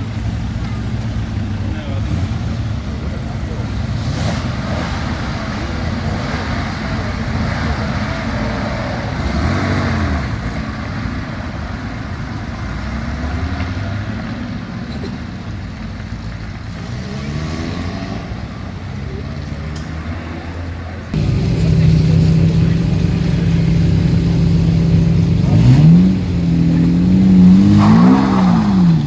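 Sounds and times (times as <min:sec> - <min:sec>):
car engines idling and revving: 0:00.0 - 0:29.0.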